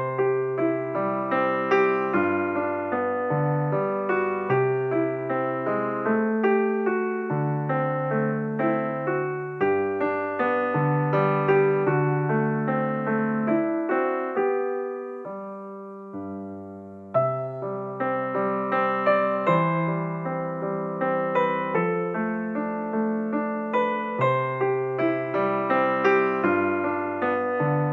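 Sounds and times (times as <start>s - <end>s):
background piano music: 0.0s - 27.9s.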